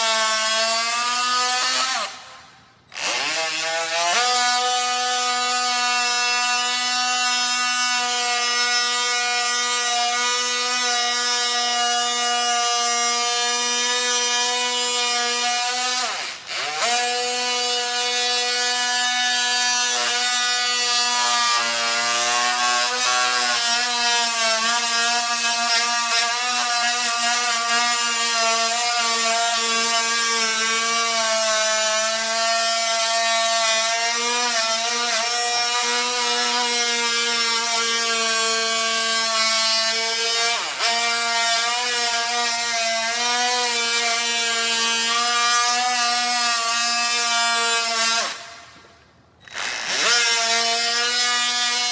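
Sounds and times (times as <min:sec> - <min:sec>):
oscillating multi-tool cutting wood: 0:00.0 - 0:51.9.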